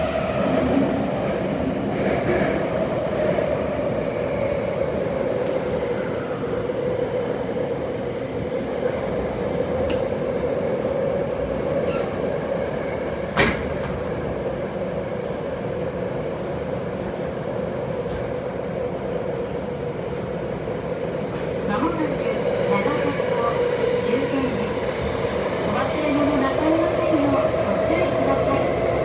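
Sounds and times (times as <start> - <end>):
subway train rumbling in tunnel: 0.0 - 29.0.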